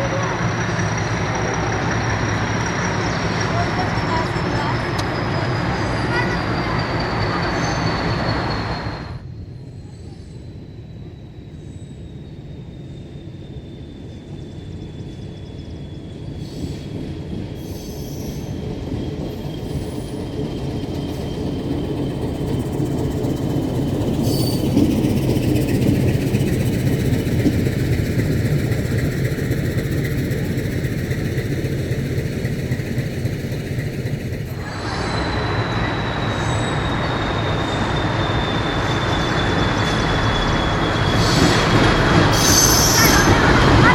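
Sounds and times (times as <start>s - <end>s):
high wheel squeal: 0.0s - 43.9s
train rumble and wheel noise: 0.0s - 43.9s.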